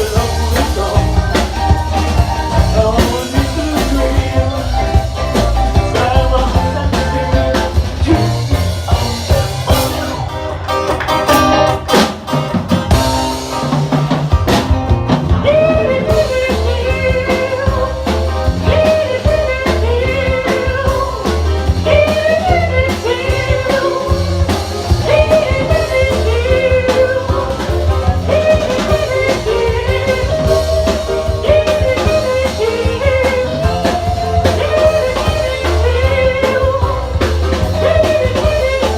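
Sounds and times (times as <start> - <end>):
electric guitar lead line bending: 0.0 - 38.9
live rock band playing: 0.0 - 38.9.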